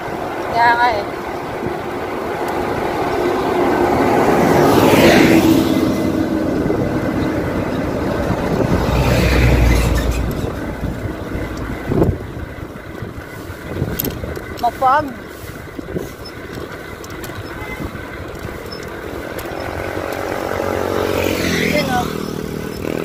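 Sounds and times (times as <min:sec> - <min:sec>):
vehicle passing with deep rumble: 0:00.0 - 0:23.0
vehicles passing close by: 0:00.0 - 0:23.0.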